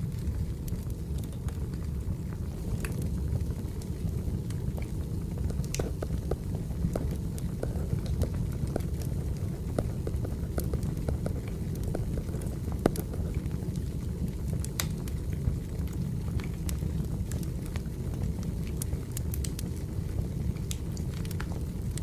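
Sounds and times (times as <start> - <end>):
fire popping and snapping: 0.0 - 22.0
low rumble of burning logs: 0.0 - 22.0.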